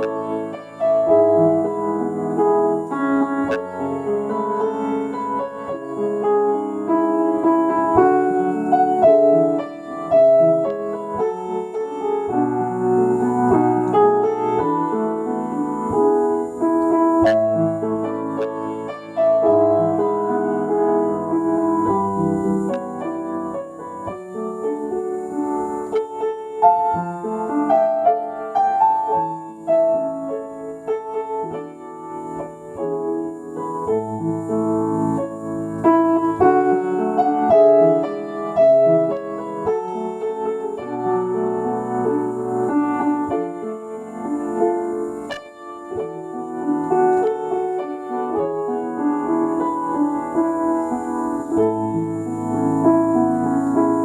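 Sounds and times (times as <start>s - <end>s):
slow solo piano piece: 0.0s - 54.0s.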